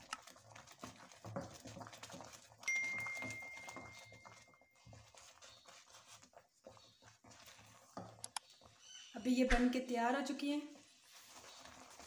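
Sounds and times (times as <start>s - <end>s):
stirring and bubbling in a pan: 0.0s - 9.4s, 10.0s - 12.0s.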